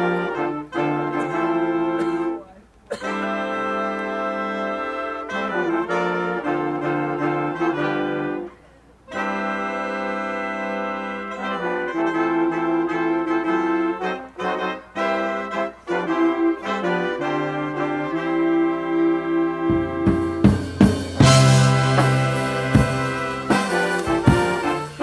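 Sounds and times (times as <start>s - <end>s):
big band playing held chords: 0.0s - 8.5s, 9.1s - 25.0s.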